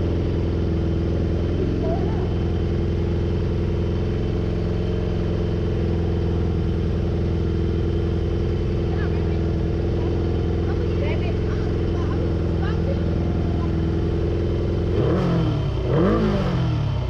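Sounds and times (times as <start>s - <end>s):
vehicle engine running steadily: 0.0s - 17.0s.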